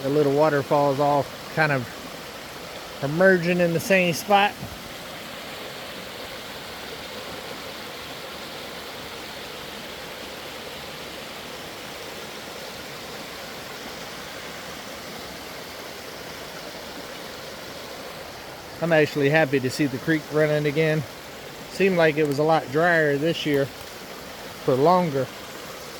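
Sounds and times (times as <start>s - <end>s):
creek waterfalls rushing: 0.0s - 25.9s.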